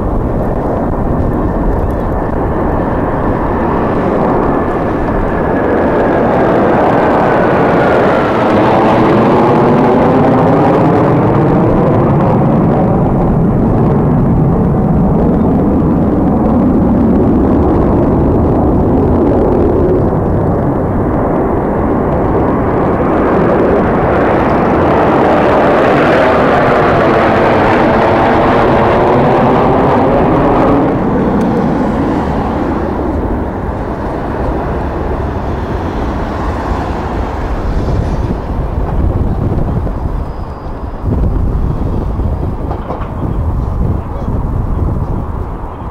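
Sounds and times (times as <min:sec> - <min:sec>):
jets flying low overhead: 0:00.0 - 0:45.9
wind rumbling on microphone: 0:00.0 - 0:45.9.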